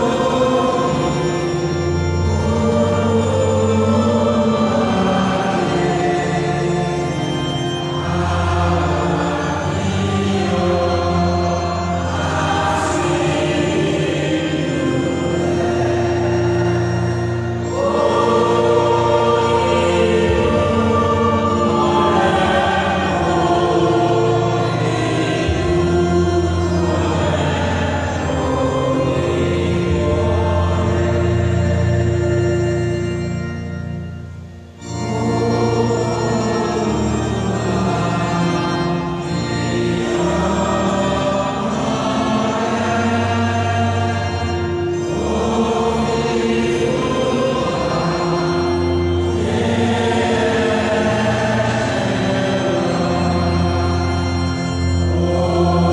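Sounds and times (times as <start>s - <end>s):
congregation singing a hymn: 0.0s - 55.9s
sustained instrumental chords: 0.0s - 55.9s.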